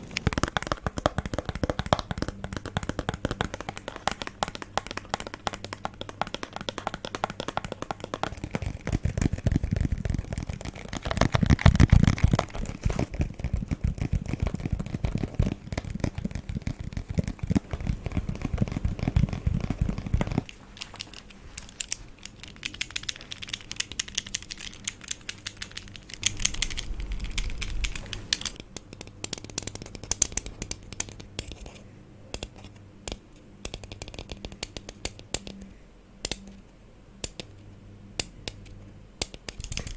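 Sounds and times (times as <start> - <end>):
rapid tapping on objects: 0.0 - 36.6.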